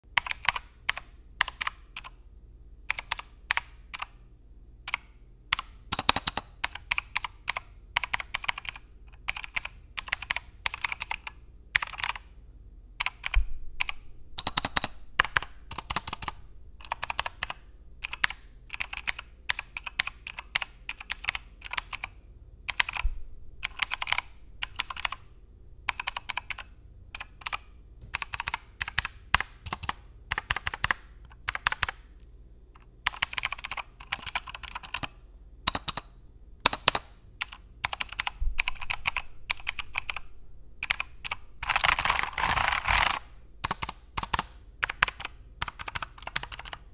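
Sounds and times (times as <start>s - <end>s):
typing on computer keyboard: 0.2s - 2.2s, 2.9s - 4.2s, 4.9s - 12.2s, 13.0s - 23.0s, 23.6s - 25.2s, 25.9s - 32.0s, 32.8s - 36.1s, 36.7s - 46.8s.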